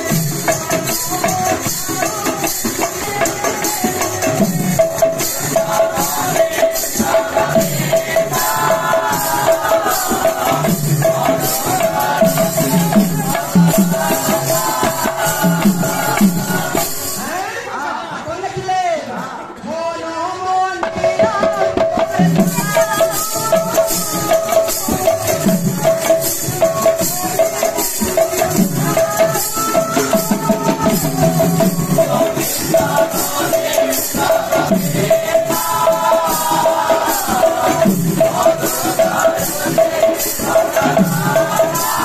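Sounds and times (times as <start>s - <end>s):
jingling percussion: 0.0s - 17.5s, 20.8s - 42.0s
voices singing: 0.0s - 42.0s.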